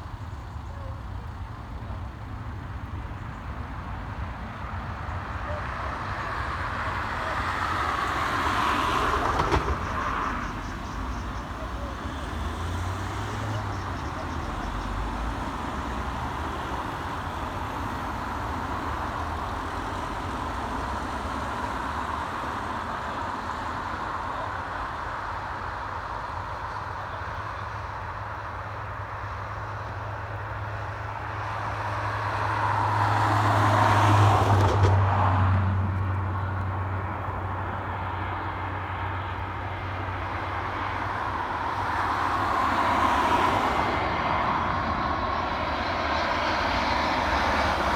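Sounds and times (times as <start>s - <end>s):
engine and traffic noise: 0.0s - 47.9s.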